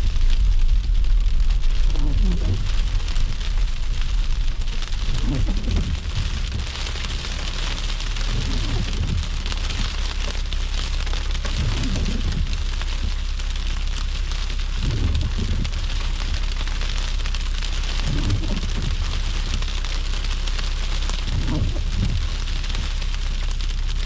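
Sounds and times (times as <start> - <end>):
low rumble of car: 0.0 - 24.0
hiss of wet snowy road: 1.6 - 24.0.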